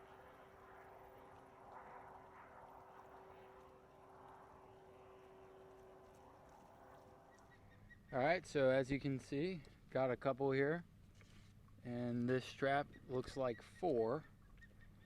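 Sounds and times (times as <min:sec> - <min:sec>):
thin steady hum: 0:00.0 - 0:13.1.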